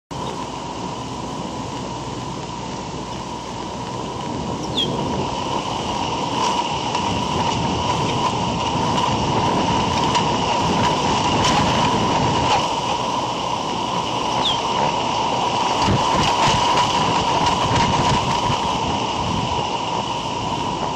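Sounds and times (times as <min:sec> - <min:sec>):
constant high hum: 0:00.1 - 0:20.9
steady rumbling noise: 0:00.1 - 0:20.9.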